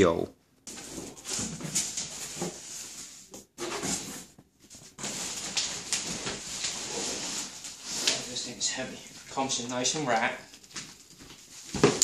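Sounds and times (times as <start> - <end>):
plastic and cardboard rustling: 0.7 - 12.0.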